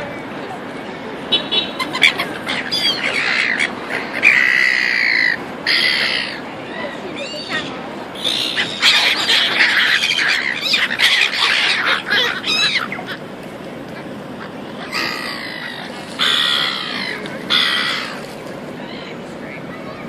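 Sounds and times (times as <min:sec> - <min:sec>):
gulls squawking: 0:01.3 - 0:20.0.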